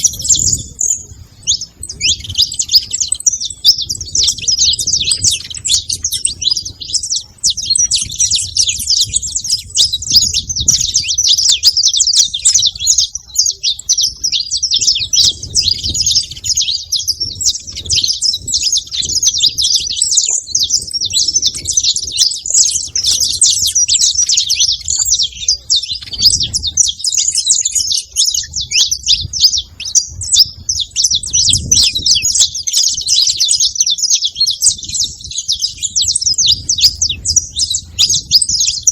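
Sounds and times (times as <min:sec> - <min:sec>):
finch singing rapid chirps and trills: 0:00.0 - 0:38.9.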